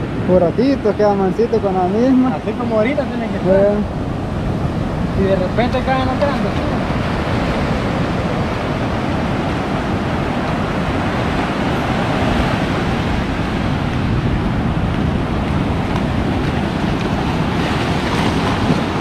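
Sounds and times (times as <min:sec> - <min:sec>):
ocean surf breaking on beach: 0:00.0 - 0:19.0
wind rumbling on microphone: 0:00.0 - 0:19.0.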